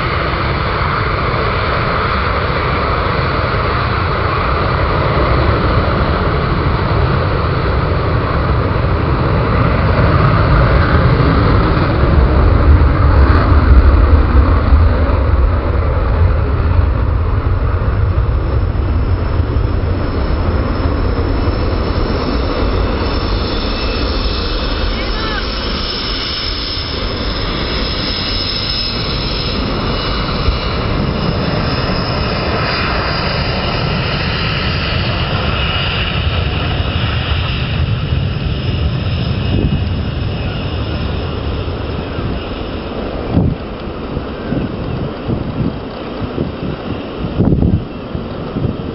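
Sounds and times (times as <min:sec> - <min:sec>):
jet engine rumble: 0:00.0 - 0:48.9.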